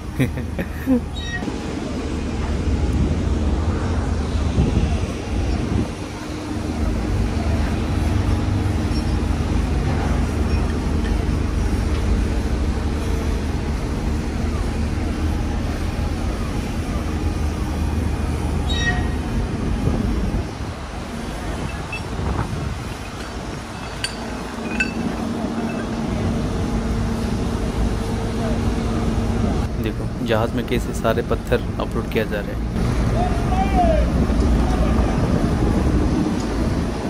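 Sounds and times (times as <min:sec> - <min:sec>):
heavy machinery droning hum: 0:00.0 - 0:37.0.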